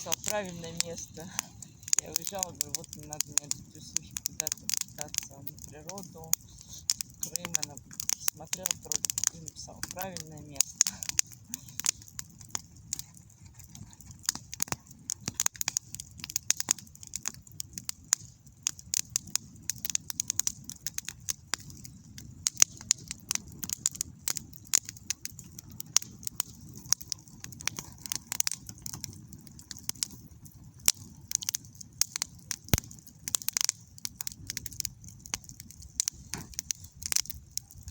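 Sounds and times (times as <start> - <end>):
campfire crackling: 0.0 - 37.9.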